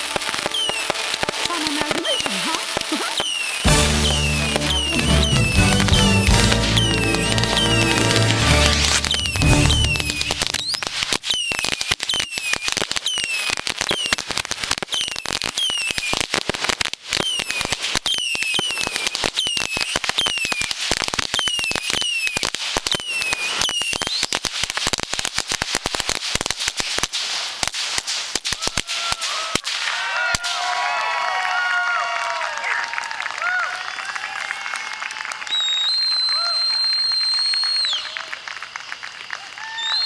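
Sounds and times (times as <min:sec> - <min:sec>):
falling firework whistles: 0:00.0 - 0:30.7, 0:35.4 - 0:40.0
firework fountain crackling pops: 0:00.0 - 0:31.0, 0:32.5 - 0:40.0.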